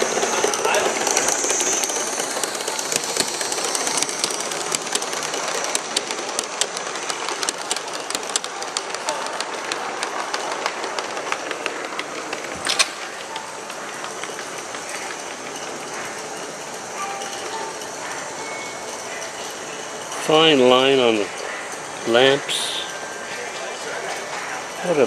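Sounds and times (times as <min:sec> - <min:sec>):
model train wheels clicking on rails: 0:00.0 - 0:25.0.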